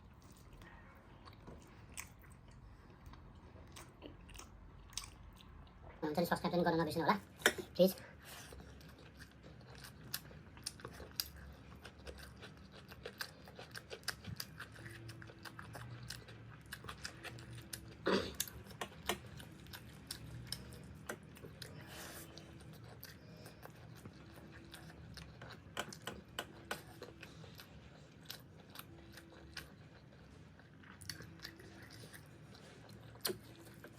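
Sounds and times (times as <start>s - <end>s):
person chewing and crunching food: 0.0s - 6.0s, 7.4s - 33.9s.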